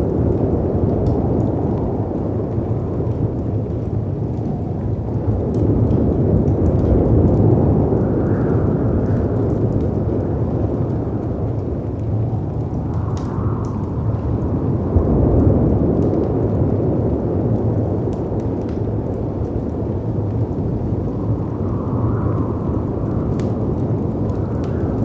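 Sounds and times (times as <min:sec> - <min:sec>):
fireplace crackling: 0:00.0 - 0:25.0
howling wind: 0:00.0 - 0:25.0.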